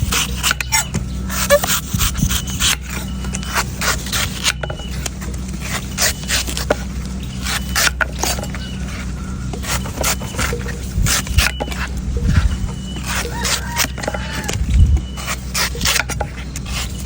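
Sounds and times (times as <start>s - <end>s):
knife scraping a coconut: 0.0s - 17.0s
steady low hum: 0.0s - 17.0s.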